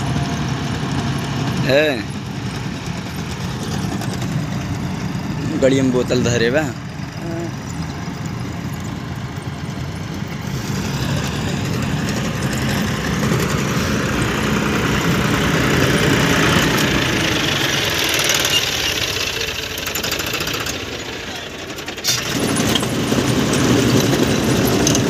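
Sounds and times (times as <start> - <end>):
loader conveyor running: 0.0 - 25.0
tractor diesel engine running: 0.0 - 25.0.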